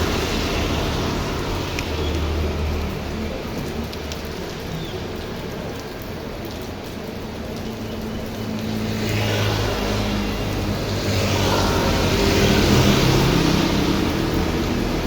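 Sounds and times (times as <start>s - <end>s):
heavy rain: 0.0s - 15.0s
vehicle passing on wet road: 0.0s - 15.0s.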